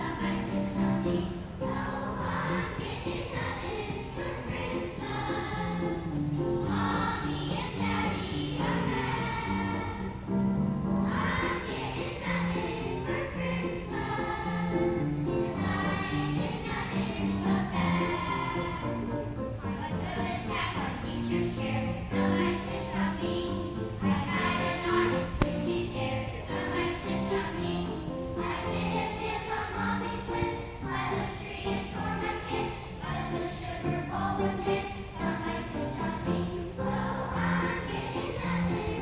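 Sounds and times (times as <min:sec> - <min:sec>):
children's choir singing: 0:00.0 - 0:39.0.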